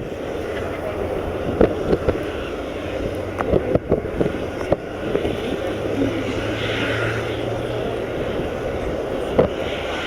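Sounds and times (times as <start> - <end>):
distant turboprop engines droning: 0.0 - 10.0
wind buffeting microphone: 0.0 - 10.0.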